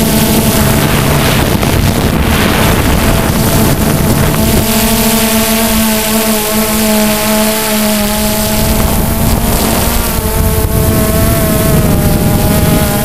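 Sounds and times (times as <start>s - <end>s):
drone motors droning hum: 0.0s - 13.0s
wind rushing over microphone: 0.0s - 13.0s.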